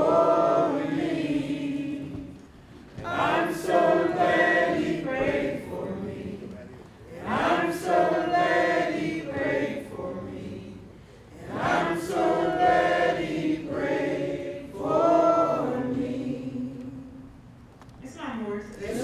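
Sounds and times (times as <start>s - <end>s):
group of voices singing: 0.0s - 17.4s.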